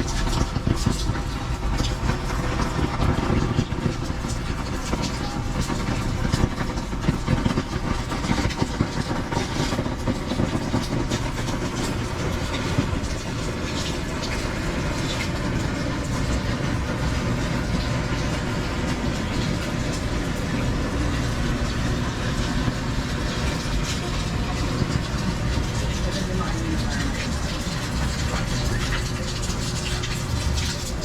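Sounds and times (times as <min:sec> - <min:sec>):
low steady rumble: 0:00.0 - 0:31.0
steady rain falling: 0:00.0 - 0:31.0.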